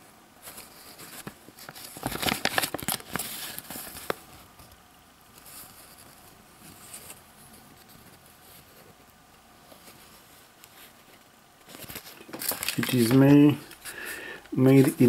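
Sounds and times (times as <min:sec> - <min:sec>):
paper rustling and crinkling: 0:00.4 - 0:15.0.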